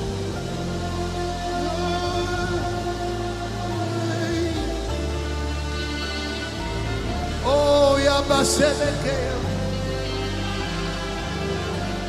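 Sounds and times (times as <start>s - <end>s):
instrumental worship music: 0.0s - 12.0s.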